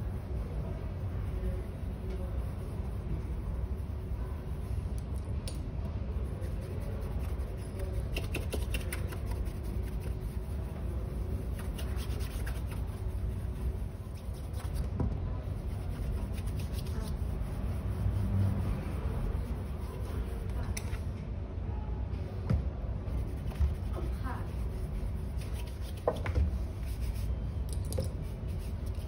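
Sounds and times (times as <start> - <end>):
cloth rubbing polish on shoe: 0.0 - 5.0, 6.1 - 20.8, 23.1 - 27.4, 28.1 - 29.0
steady low hum: 0.0 - 29.0.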